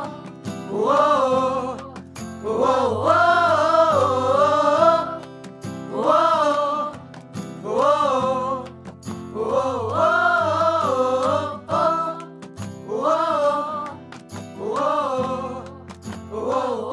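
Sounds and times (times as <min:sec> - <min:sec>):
children's pop song: 0:00.0 - 0:16.9.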